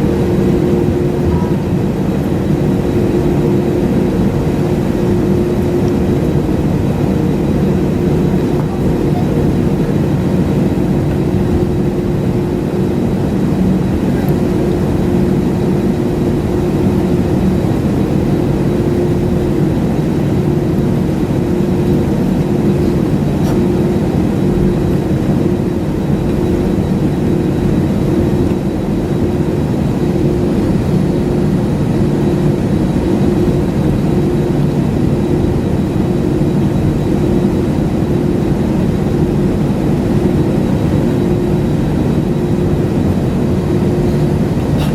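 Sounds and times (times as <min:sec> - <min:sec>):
airliner cabin drone: 0:00.0 - 0:44.9.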